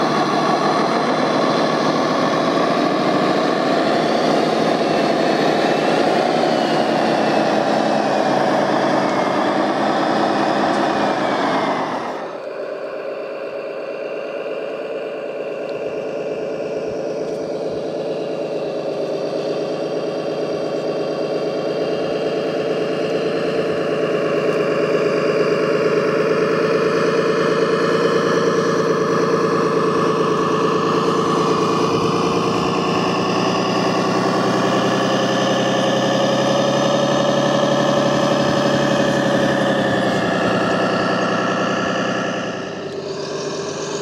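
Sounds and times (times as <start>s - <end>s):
truck engine drone: 0.0s - 44.0s.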